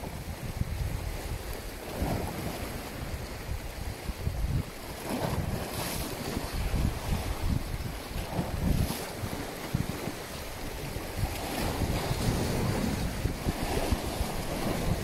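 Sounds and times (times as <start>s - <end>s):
sea waves washing: 0.0s - 15.0s
wind buffeting microphone: 0.0s - 15.0s.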